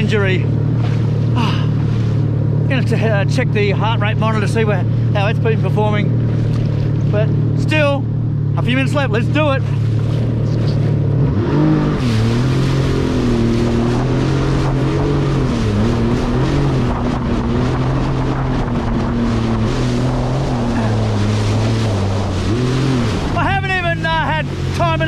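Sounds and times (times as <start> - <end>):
jet ski engine running hard: 0.0 - 25.0
rush of wind and water: 0.0 - 25.0.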